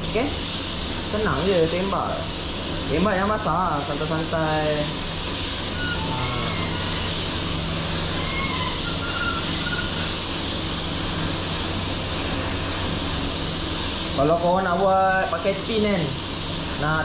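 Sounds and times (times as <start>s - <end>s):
spray gun hissing: 0.0s - 17.0s.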